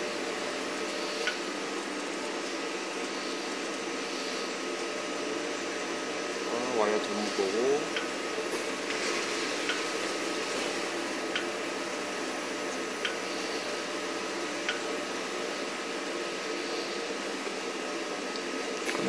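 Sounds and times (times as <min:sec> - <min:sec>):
machine whirring: 0:00.0 - 0:19.0.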